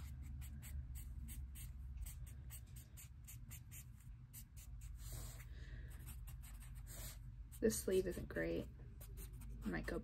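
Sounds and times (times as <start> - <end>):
marker scratching on paper: 0.0 - 10.0.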